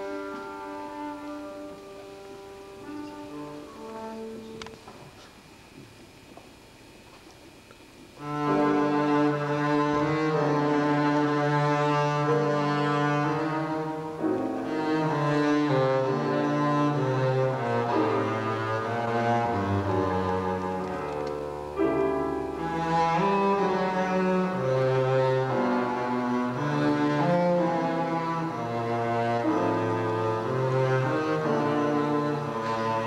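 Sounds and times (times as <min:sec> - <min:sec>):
piano accompaniment: 0:00.0 - 0:04.6, 0:08.2 - 0:33.0
bowed double basses: 0:00.0 - 0:05.2, 0:08.1 - 0:33.0.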